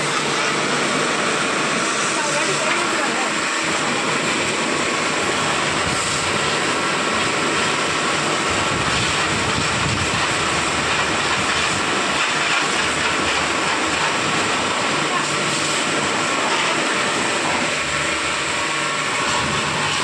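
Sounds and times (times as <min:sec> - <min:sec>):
pressure washer motor running: 0:00.0 - 0:20.0
water jet hissing on ground: 0:00.0 - 0:20.0.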